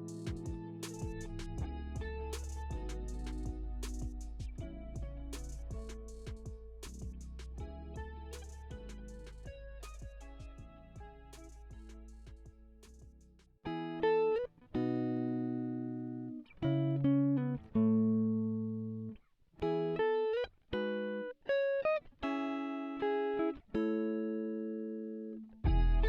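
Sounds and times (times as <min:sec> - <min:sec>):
plucked guitar playing chords: 0:00.0 - 0:12.8, 0:13.6 - 0:26.0.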